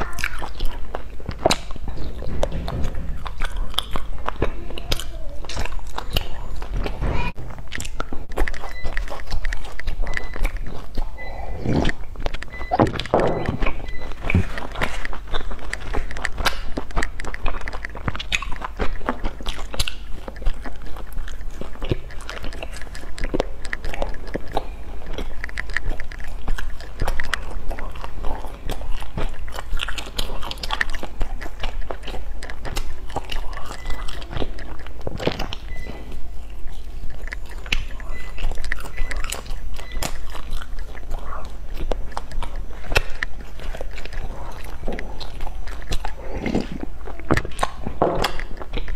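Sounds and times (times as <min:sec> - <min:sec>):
biting into crisp pastries: 0:00.0 - 0:48.9
chewing: 0:00.0 - 0:48.9
pastry crust crunching: 0:00.0 - 0:48.9.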